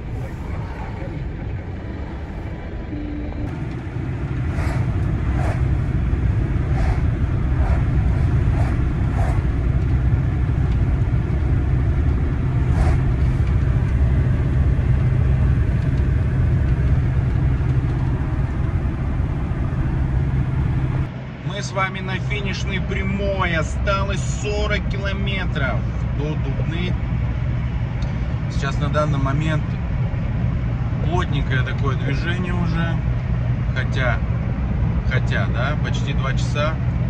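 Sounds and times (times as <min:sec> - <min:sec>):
van engine and tyre drone: 0:00.0 - 0:37.0.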